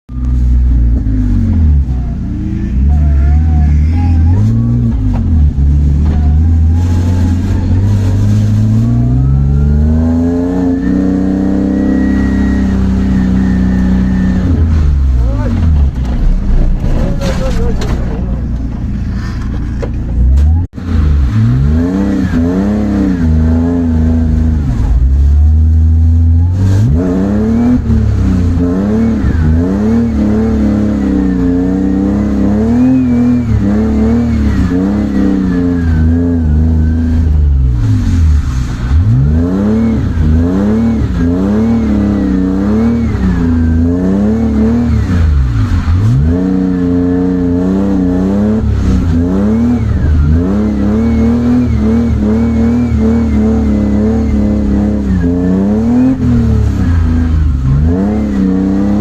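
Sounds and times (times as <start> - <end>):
car engine revving hard: 0.2 - 16.1, 20.3 - 59.0.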